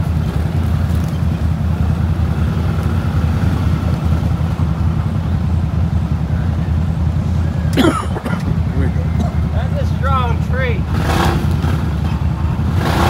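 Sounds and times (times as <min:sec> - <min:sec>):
engine deep rumble: 0:00.0 - 0:13.0.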